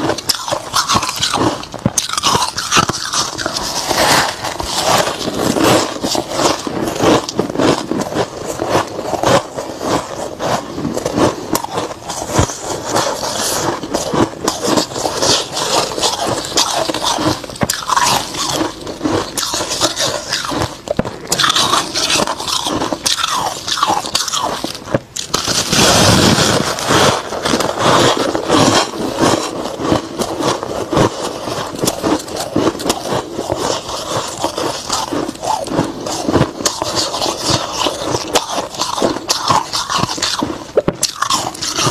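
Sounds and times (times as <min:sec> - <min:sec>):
frost crunching as chewed: 0:00.0 - 0:41.9.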